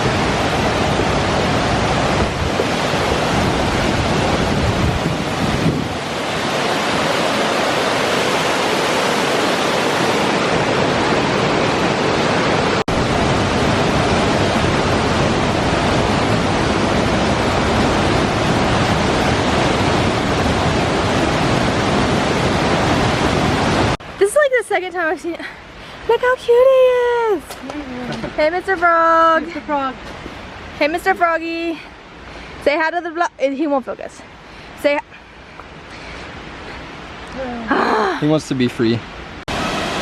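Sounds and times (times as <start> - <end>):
waterfall rushing: 0.0 - 32.9, 34.3 - 40.0.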